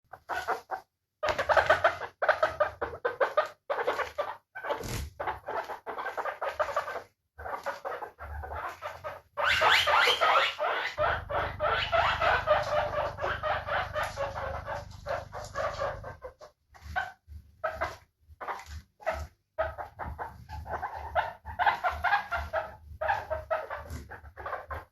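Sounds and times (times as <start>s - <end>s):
guinea pig squeaking: 0.1s - 24.9s.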